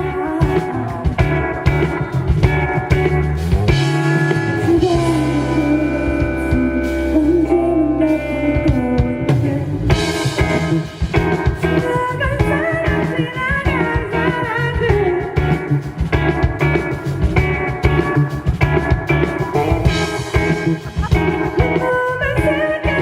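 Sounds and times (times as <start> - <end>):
drums: 0.0 - 23.0
electric guitar chords: 0.0 - 23.0
indie rock band playing: 0.0 - 23.0.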